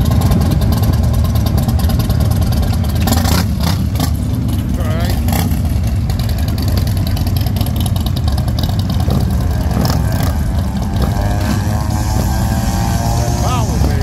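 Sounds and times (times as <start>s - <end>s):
motorcycles idling deep exhaust: 0.0s - 14.0s.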